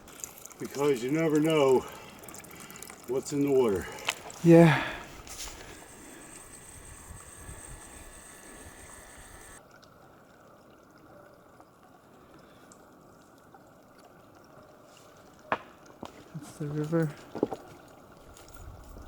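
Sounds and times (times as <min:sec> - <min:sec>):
small stream trickling: 0:00.0 - 0:07.6, 0:09.2 - 0:19.0.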